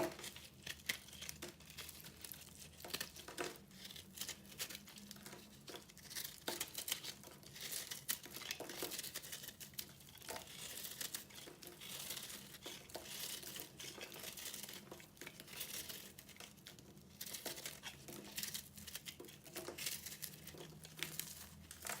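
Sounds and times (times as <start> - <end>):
soap crackling crushed by hand: 0.0 - 22.0.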